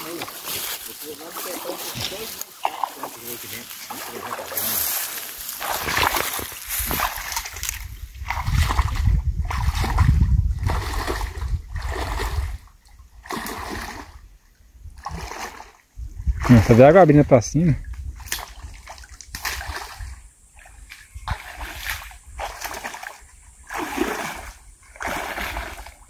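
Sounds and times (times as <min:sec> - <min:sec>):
footsteps splashing in water: 0:00.0 - 0:12.6, 0:13.2 - 0:14.2, 0:15.0 - 0:15.8, 0:18.2 - 0:26.0.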